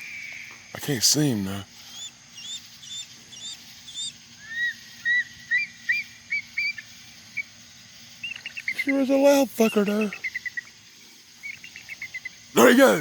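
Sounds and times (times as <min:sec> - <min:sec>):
crickets trilling: 0:00.0 - 0:13.0
bird chirping: 0:01.7 - 0:13.0.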